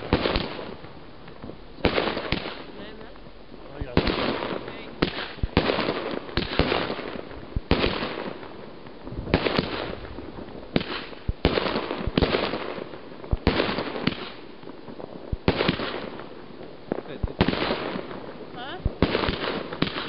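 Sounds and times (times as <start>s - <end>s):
firework bangs: 0.0s - 20.0s
firework hiss: 0.0s - 20.0s.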